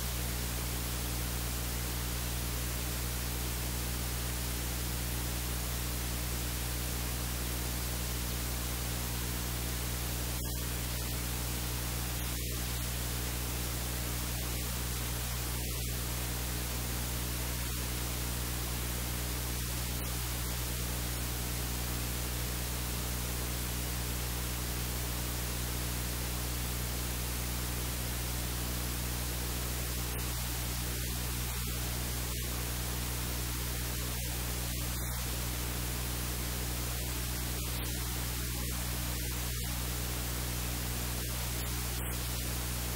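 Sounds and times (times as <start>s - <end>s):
low electrical hum: 0.0s - 42.9s
static hiss: 0.0s - 42.9s.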